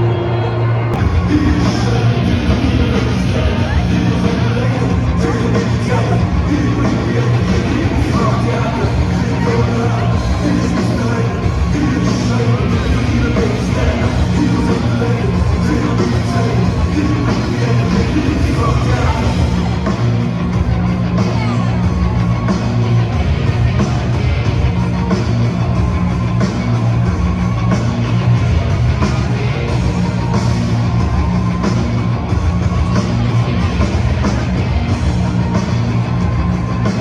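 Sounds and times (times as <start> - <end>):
rock music with singing: 0.0 - 37.0.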